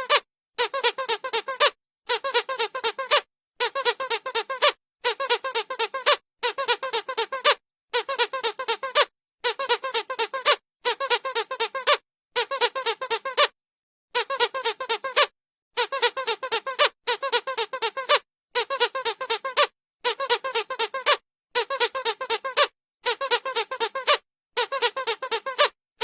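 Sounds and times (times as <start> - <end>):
squeaky dog toy squeaking: 0.0 - 25.8.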